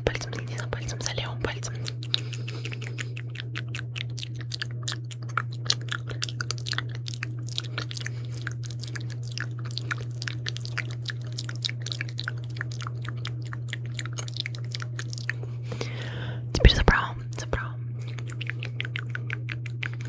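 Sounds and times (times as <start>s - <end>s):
wet lip and tongue clicks: 0.0s - 20.0s.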